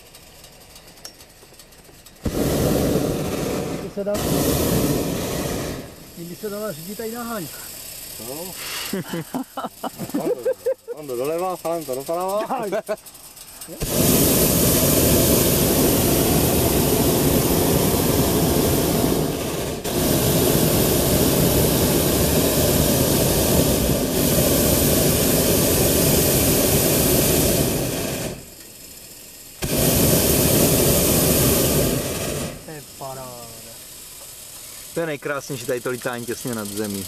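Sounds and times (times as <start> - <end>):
propane burner firing: 0.0 - 37.0.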